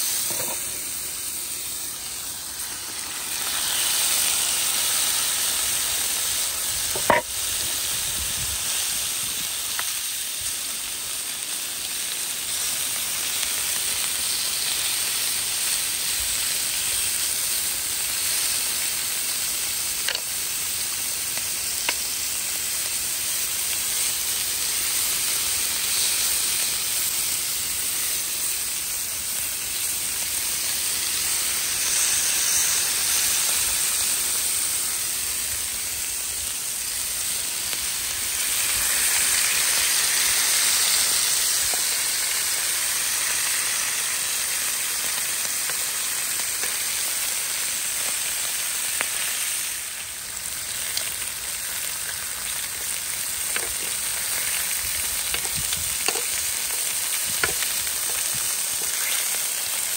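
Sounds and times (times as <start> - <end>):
beef sizzling on grill pan: 0.0 - 59.9.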